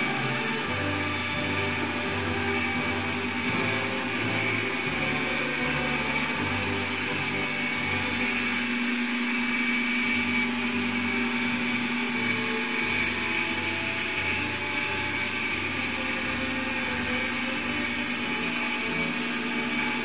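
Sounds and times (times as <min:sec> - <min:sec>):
steam engine machinery humming: 0:00.0 - 0:20.0.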